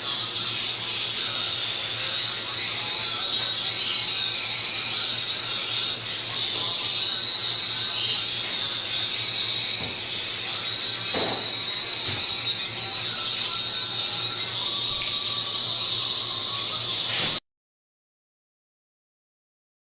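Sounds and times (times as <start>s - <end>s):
canaries chirping and trilling: 0.0s - 17.4s.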